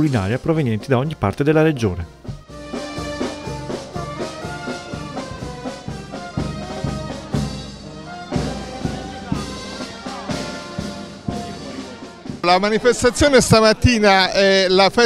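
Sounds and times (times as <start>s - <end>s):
trumpets and trombones: 0.0s - 13.8s
steady drum beat: 0.0s - 14.9s.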